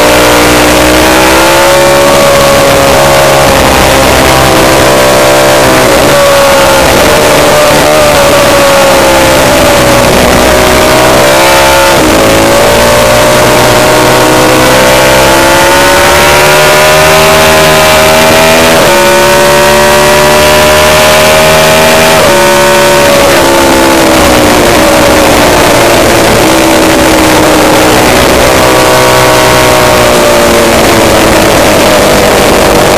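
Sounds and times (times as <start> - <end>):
motorcycle engine revving high: 0.0 - 32.9.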